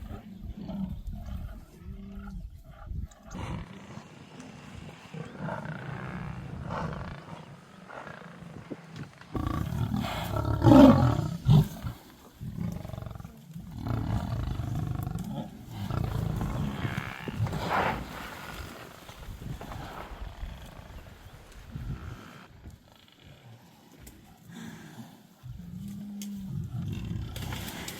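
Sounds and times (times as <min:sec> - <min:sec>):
lions growling and snarling: 0:00.0 - 0:27.9.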